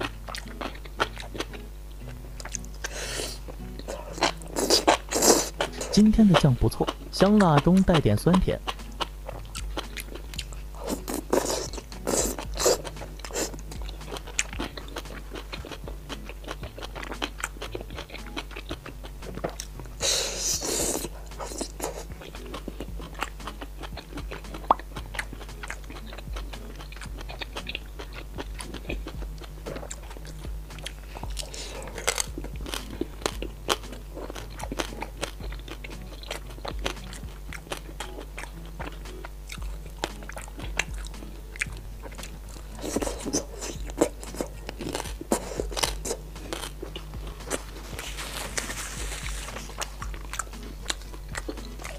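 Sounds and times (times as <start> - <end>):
crunching crispy fried food: 0.0 - 51.9.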